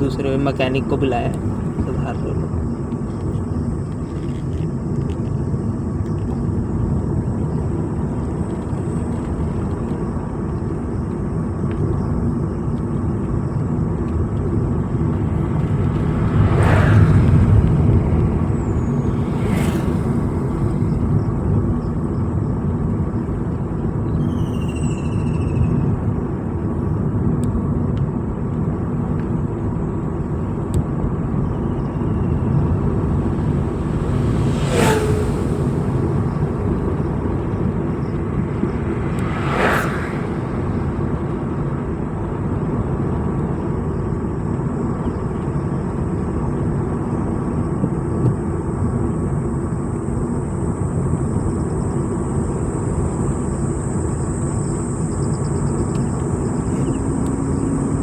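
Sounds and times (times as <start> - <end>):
vehicle engine and tyre rumble: 0.0 - 58.0.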